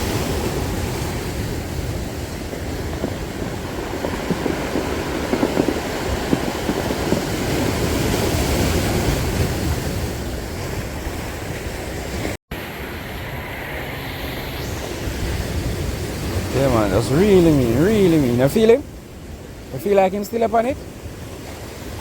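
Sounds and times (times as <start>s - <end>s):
sea waves washing on shore: 0.0s - 22.0s
wind rumbling on microphone: 0.0s - 22.0s.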